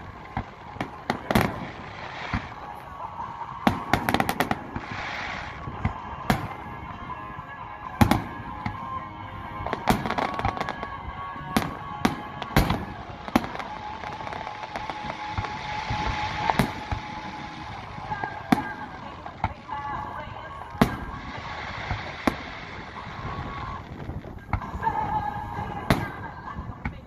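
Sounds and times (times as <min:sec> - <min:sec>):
firework booms and crackles: 0:00.0 - 0:27.0.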